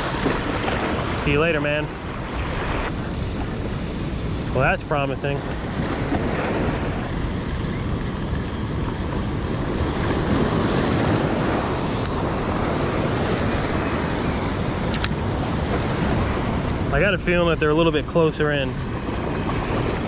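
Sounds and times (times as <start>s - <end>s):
surf washing against rocks: 0.0s - 3.7s, 4.4s - 20.0s
wind buffeting microphone: 0.0s - 20.0s.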